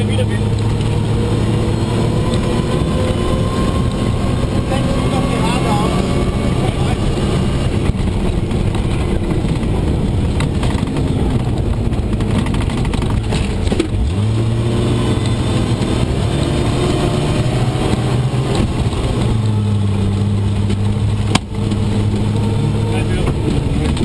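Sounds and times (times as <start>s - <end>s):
road and body noise: 0.0s - 24.0s
vehicle engine under load: 0.0s - 24.0s.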